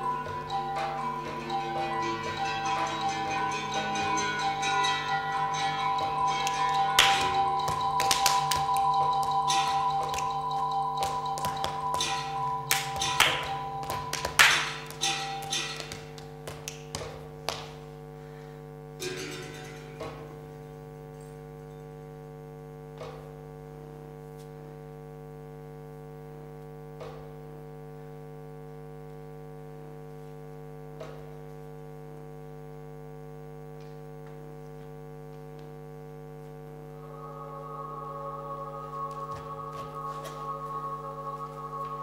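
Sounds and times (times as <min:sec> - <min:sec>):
electrical mains hum: 0:00.0 - 0:42.0.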